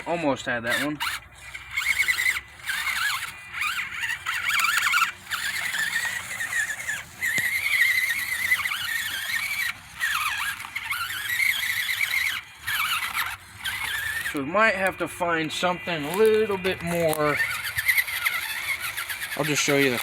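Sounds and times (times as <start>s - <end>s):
electric motor and gears whining: 0.0s - 20.0s.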